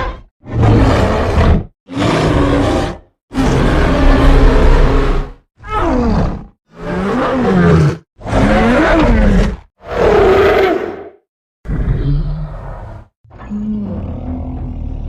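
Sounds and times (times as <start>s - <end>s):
monster roars and grunts: 0.4s - 15.0s.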